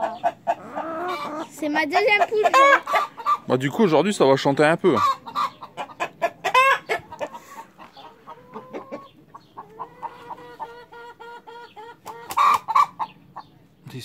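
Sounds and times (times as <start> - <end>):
hens clucking: 0.0 - 13.9.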